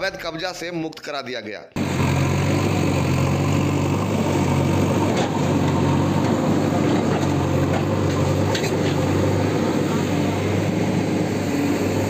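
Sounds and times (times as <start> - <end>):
engine running steadily: 1.8 - 12.0.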